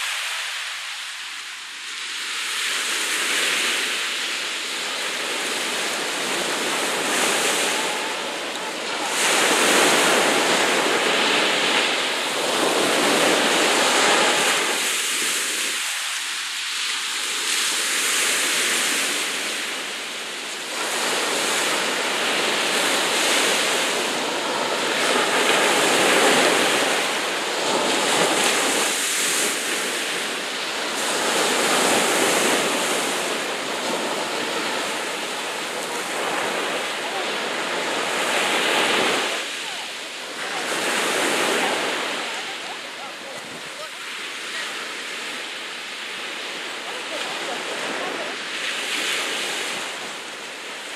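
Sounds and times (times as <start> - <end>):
sea waves breaking: 0.0 - 50.9.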